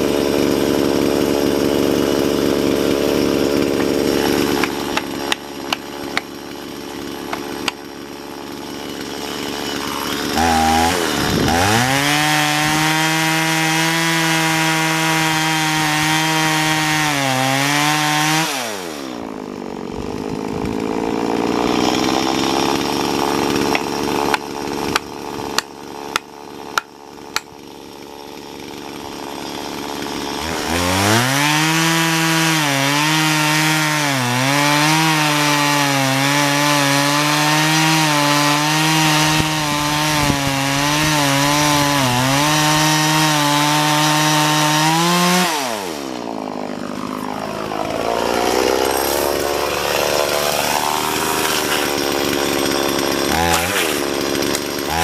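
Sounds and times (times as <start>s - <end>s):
chainsaw cutting and idling: 0.0s - 55.0s.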